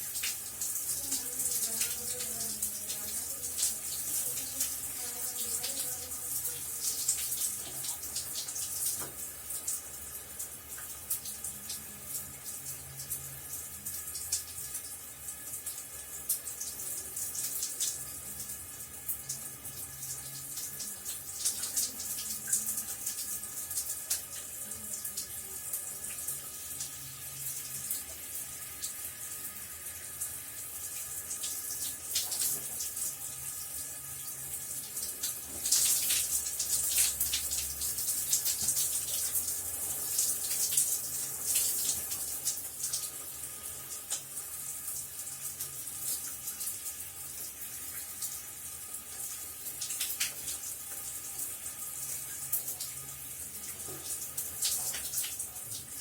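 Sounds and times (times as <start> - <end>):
shower spray running: 0.0 - 56.0.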